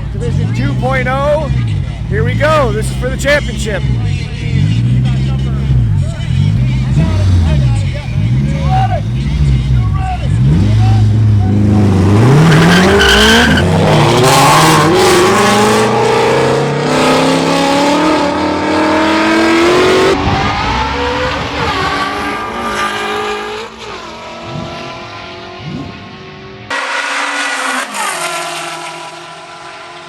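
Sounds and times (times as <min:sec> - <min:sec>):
racing car engines accelerating: 0:00.0 - 0:30.0.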